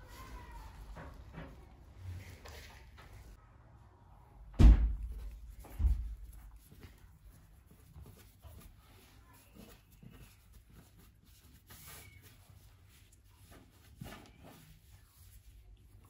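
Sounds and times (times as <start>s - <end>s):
hands rustling dough: 0.0s - 3.4s, 4.9s - 16.0s.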